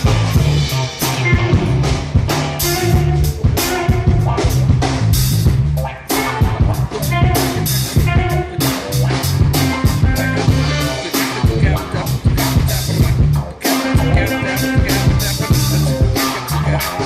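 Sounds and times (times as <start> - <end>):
blues-rock band playing: 0.0 - 17.0
drum kit hits: 0.0 - 17.0.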